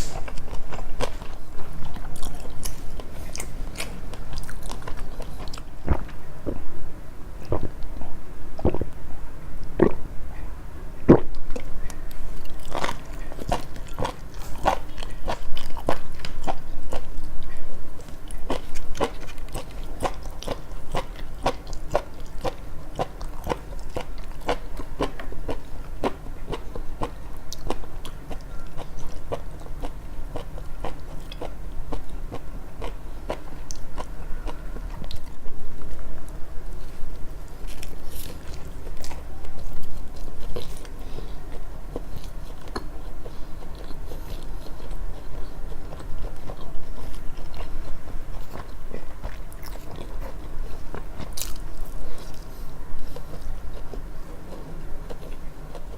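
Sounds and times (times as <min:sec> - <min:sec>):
wet chewing mouth sounds: 0:00.0 - 0:06.7, 0:07.4 - 0:09.0, 0:09.6 - 0:10.0, 0:11.1 - 0:36.0, 0:36.7 - 0:55.9.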